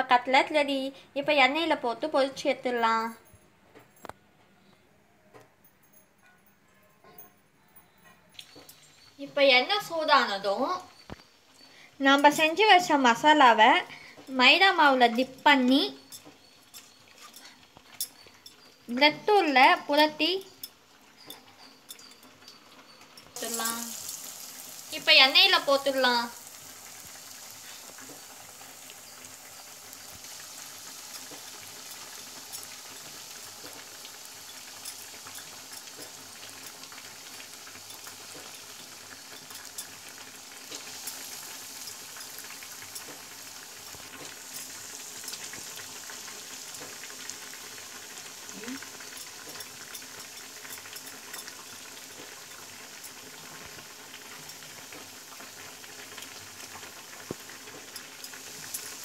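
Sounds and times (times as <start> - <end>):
food deep-frying in oil: 8.3 - 59.0.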